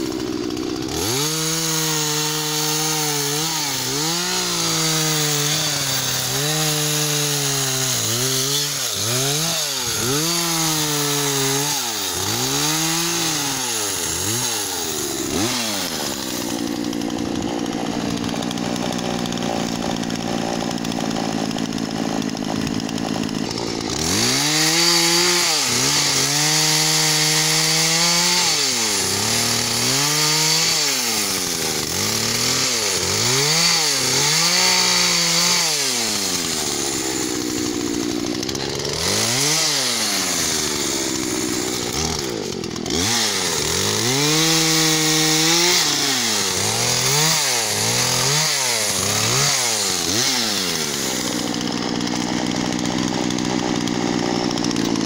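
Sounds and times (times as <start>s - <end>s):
chainsaw idling and revving: 0.0s - 55.0s.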